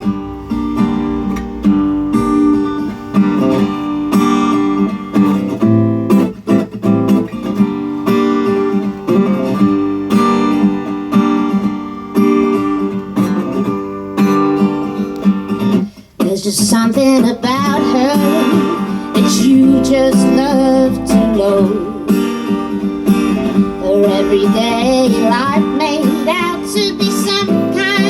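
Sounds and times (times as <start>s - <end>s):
guitar strumming chords: 0.0s - 28.0s.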